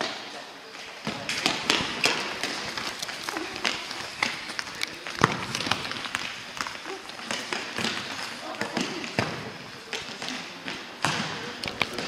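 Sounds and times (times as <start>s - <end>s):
quick footsteps on hall floor: 1.0s - 12.0s.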